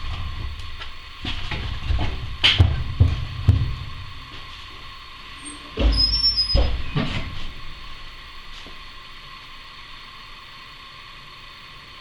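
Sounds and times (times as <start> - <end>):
wood fire hissing: 0.0 - 12.0.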